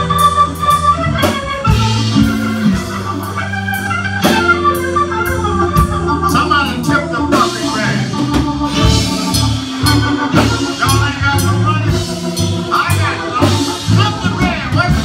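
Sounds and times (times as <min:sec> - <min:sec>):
bass: 0:00.0 - 0:15.0
drum kit: 0:00.0 - 0:15.0
organ chords: 0:00.0 - 0:15.0.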